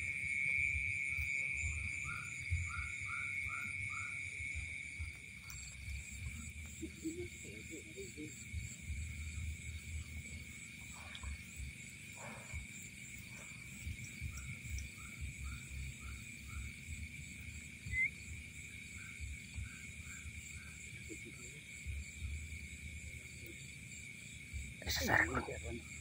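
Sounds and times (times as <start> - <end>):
insect drone: 0.0 - 26.0
pulsing insect trill: 0.0 - 26.0.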